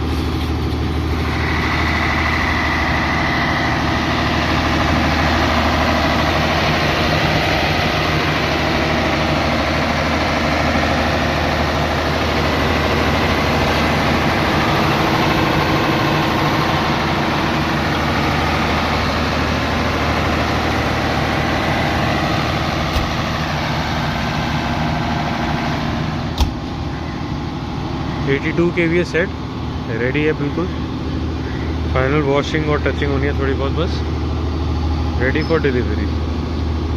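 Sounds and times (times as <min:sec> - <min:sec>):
diesel generator running: 0:00.0 - 0:36.9.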